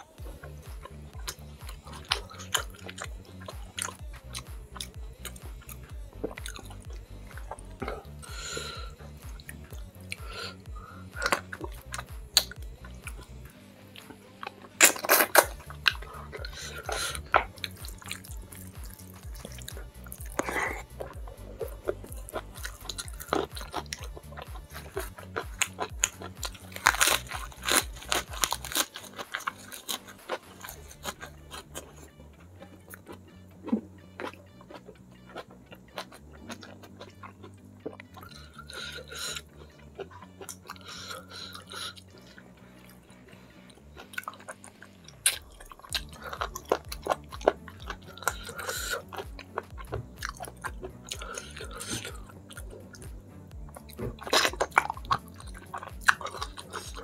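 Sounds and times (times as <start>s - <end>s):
background music with bass: 0.0s - 57.0s
wet chewing and smacking: 0.0s - 57.0s.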